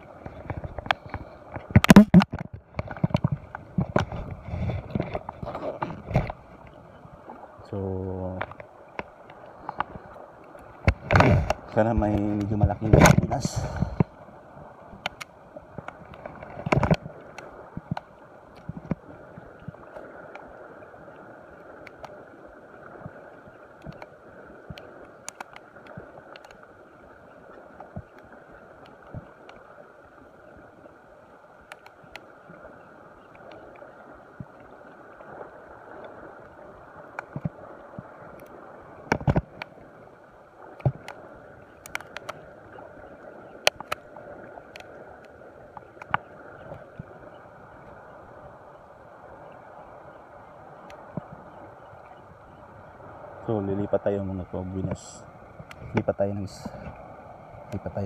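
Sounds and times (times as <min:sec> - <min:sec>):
sea water washing: 0:00.0 - 0:58.0
wind: 0:00.0 - 0:58.0
rod and reel clicks: 0:00.1 - 0:06.9, 0:08.3 - 0:14.2, 0:14.9 - 0:22.2, 0:22.8 - 0:40.0, 0:40.6 - 0:52.9, 0:54.7 - 0:58.0.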